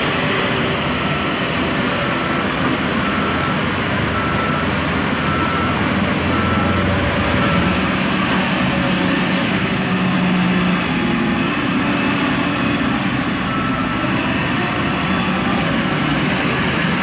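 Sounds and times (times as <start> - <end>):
excavator diesel engines working: 0.0 - 17.0.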